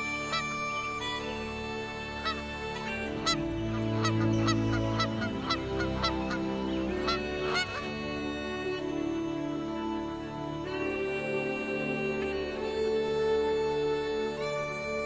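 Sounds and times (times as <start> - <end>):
geese honking: 0.0 - 14.9
orchestral music: 0.0 - 15.0.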